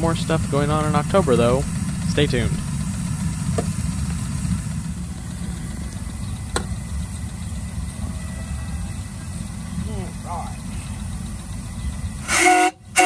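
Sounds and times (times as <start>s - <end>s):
steam locomotive burner rumble: 0.0s - 13.0s.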